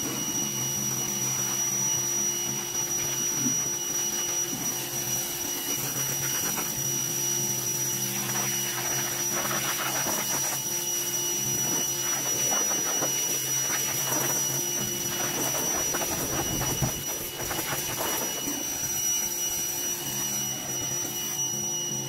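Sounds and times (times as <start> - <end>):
high motor whine: 0.0 - 22.0
pressure washer spray hissing: 2.5 - 21.3.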